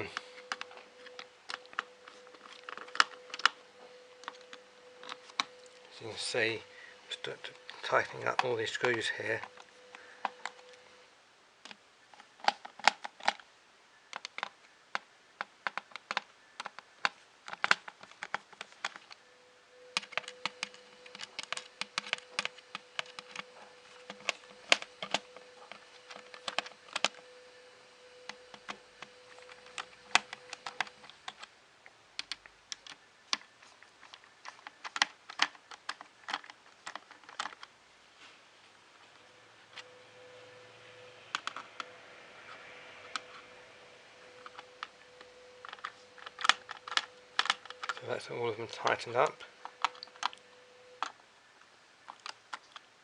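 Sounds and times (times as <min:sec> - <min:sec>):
faint steady tone: 0:00.0 - 0:12.2, 0:18.3 - 0:35.0, 0:37.4 - 0:53.0.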